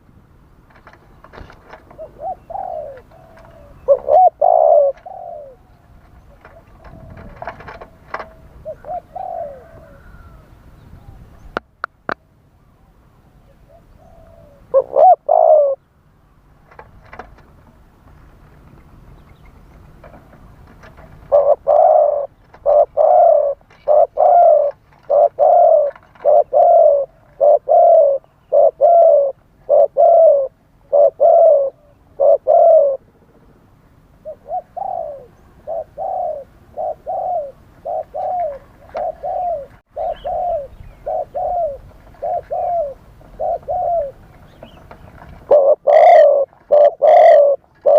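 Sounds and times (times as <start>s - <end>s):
dove cooing: 0.8s - 11.2s, 13.4s - 15.9s, 20.8s - 33.4s, 34.2s - 47.9s.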